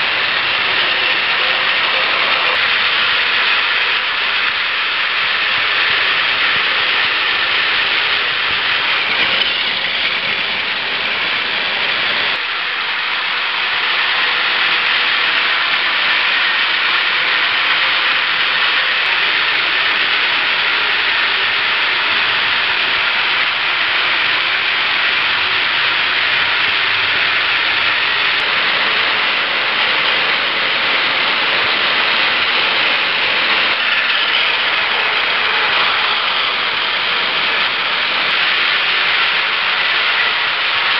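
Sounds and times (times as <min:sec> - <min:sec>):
toy trains whirring and rattling: 0:00.0 - 0:40.9.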